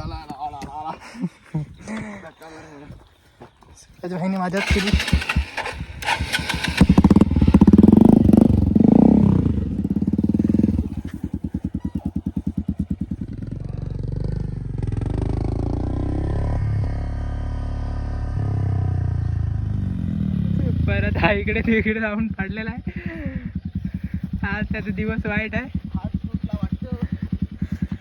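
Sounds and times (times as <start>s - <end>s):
motorcycle engine revving: 4.5s - 28.0s.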